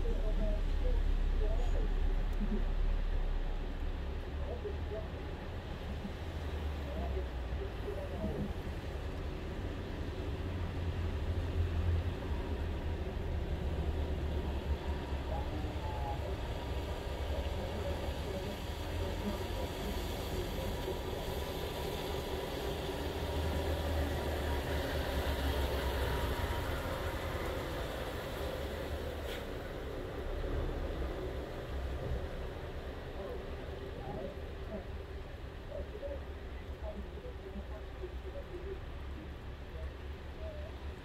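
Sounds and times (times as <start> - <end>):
rain: 0.0 - 41.0
vehicle engines rumbling: 0.0 - 41.0.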